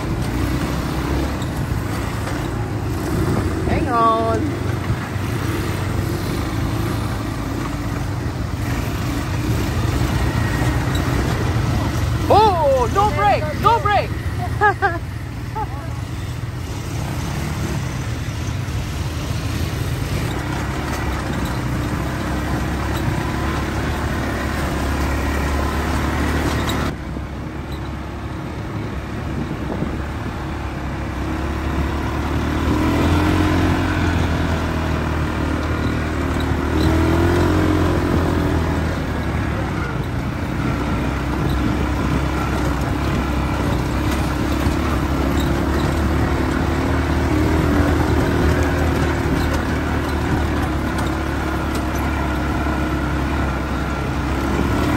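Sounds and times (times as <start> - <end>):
quad bike engines droning: 0.0 - 54.9.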